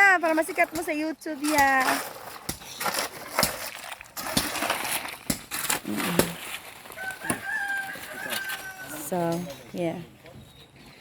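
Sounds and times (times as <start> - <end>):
shovels scraping gravel: 0.0 - 11.0.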